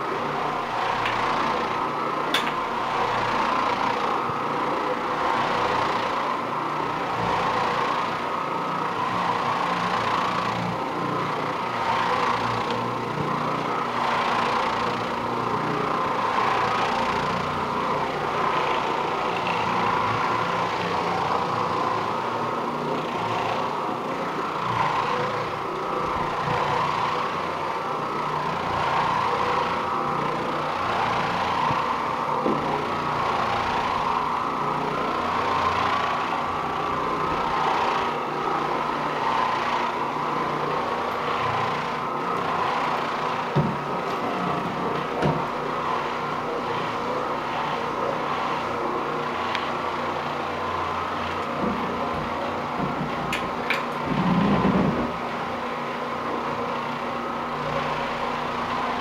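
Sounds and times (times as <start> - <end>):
floor machine motor hum: 0.0 - 59.0
brush scrubbing carpet: 7.1 - 59.0.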